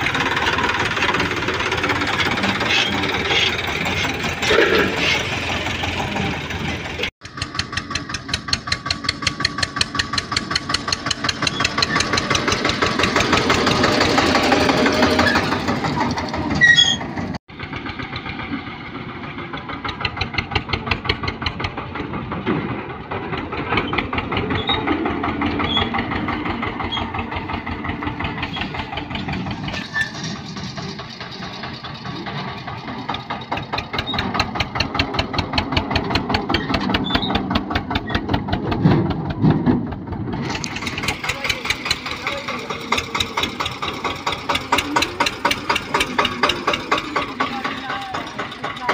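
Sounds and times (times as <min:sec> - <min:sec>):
tractor diesel engine chugging: 0:00.0 - 0:48.9.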